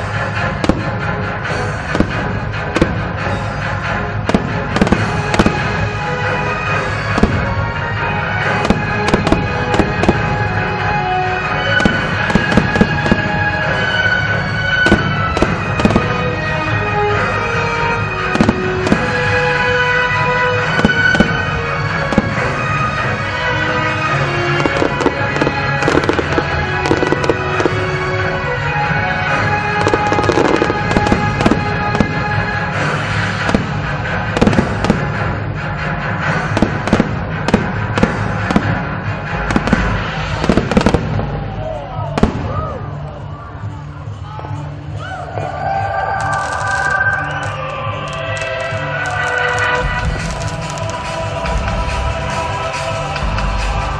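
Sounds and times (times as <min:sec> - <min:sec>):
fireworks bursting: 0:00.0 - 0:42.8, 0:46.0 - 0:53.9
background music: 0:00.0 - 0:53.9.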